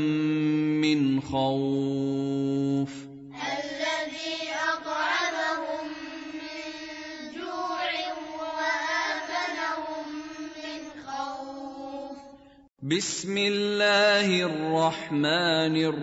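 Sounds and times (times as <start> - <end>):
melodic chanted recitation: 0.0 - 16.0.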